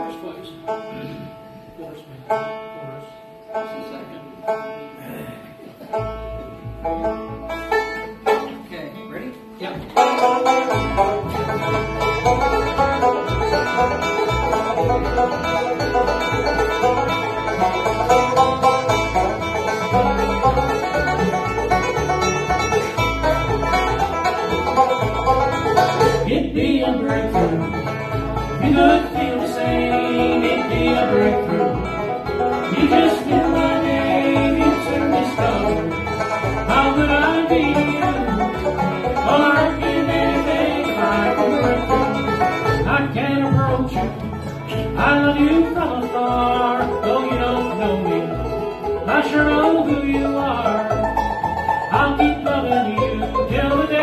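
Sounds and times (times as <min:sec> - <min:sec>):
banjo: 0:00.0 - 0:54.0
bluegrass band playing: 0:00.0 - 0:54.0.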